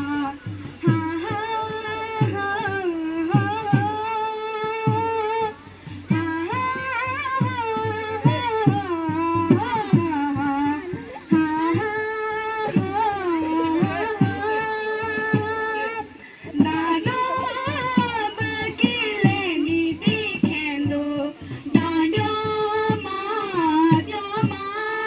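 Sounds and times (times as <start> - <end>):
drum beating: 0.0 - 25.0
girls singing folk song: 0.0 - 25.0.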